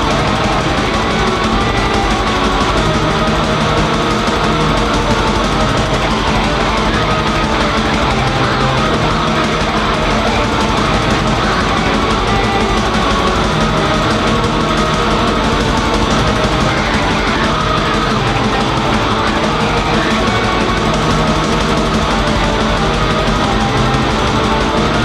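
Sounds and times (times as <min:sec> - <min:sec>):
heavily distorted guitar metal music: 0:00.0 - 0:25.0.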